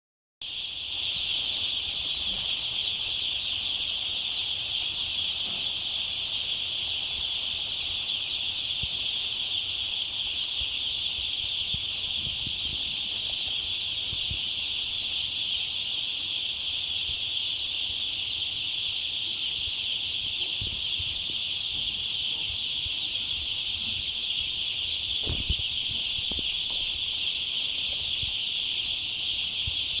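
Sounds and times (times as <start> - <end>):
chicks peeping: 0.4 - 30.0.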